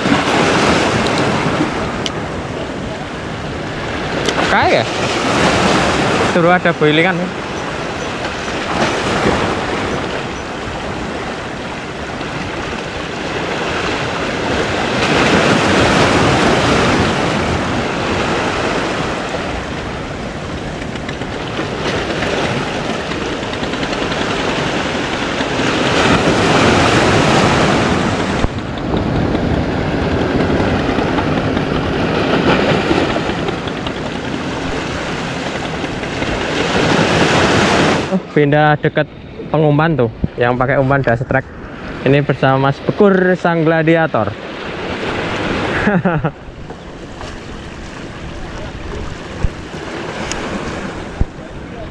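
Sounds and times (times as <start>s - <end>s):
wind on microphone: 0.0s - 38.3s, 39.0s - 43.0s, 44.3s - 51.9s
sea waves washing against rocks: 0.0s - 51.9s.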